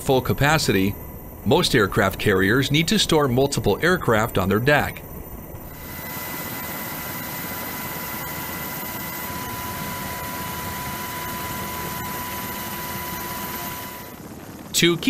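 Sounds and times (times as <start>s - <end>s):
high jet whine: 0.0s - 15.0s
jet engines rushing: 0.0s - 15.0s.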